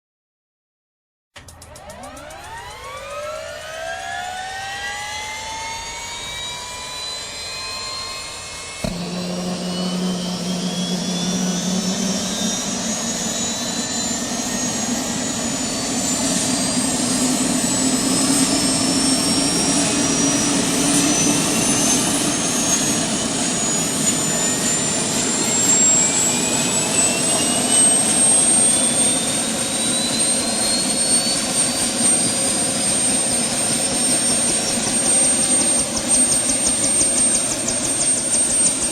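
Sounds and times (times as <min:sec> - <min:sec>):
helicopter turbine whine: 0:01.4 - 0:38.9.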